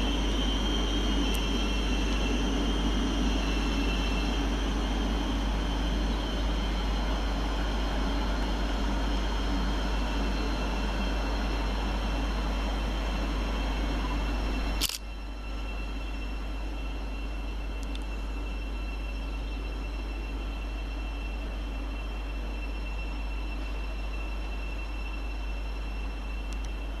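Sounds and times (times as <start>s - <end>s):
train rumbling with high whine: 0.0s - 27.0s.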